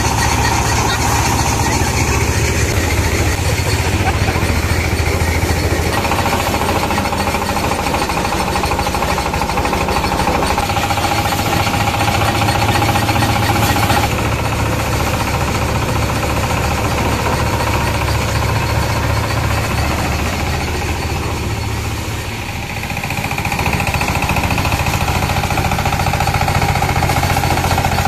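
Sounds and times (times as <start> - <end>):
thresher engine rattling: 0.0 - 28.0.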